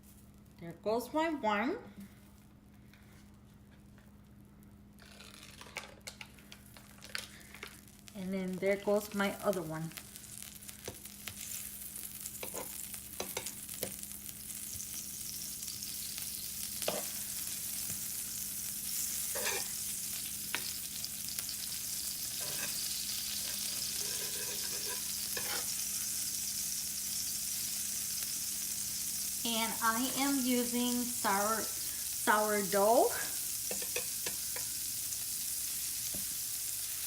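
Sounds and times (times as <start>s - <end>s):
bread sizzling in a skillet: 6.4s - 37.0s.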